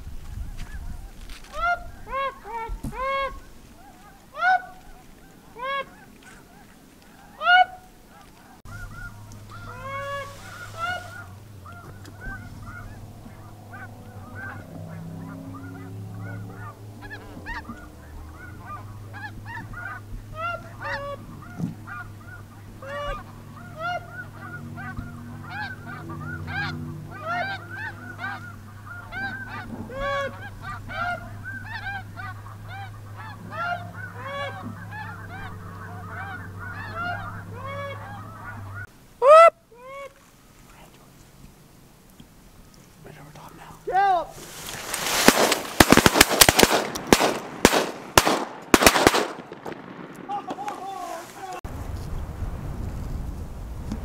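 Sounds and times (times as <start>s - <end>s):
geese honking and calling: 0.2s - 51.6s.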